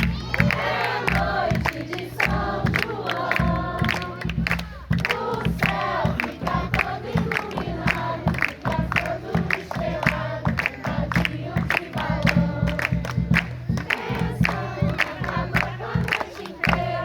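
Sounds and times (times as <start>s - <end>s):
group of voices singing: 0.0s - 17.0s
steady percussive beat: 0.0s - 17.0s.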